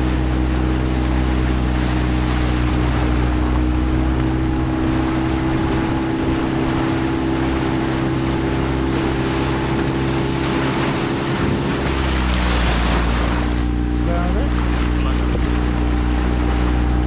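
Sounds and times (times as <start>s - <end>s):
motorboat engine running: 0.0s - 17.0s
water rushing past hull: 0.0s - 17.0s.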